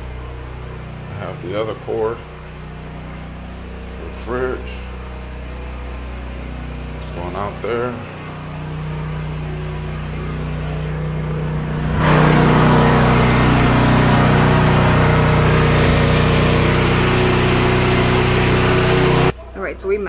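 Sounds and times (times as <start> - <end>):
generator engine running: 0.0 - 19.4.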